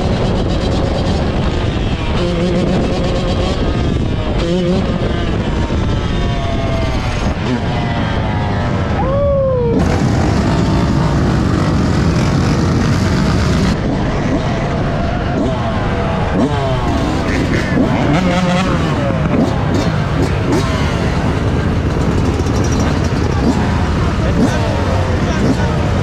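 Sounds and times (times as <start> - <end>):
loud vehicle engine running: 0.0 - 26.0.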